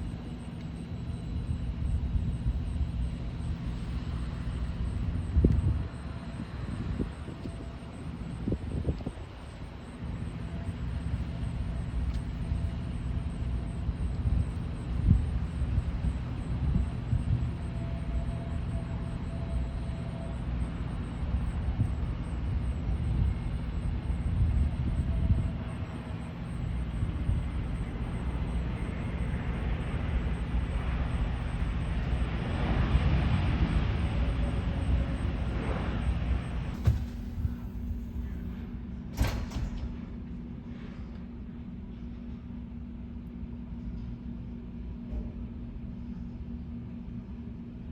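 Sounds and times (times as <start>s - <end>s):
jet airliner landing rumble: 0.0s - 43.6s.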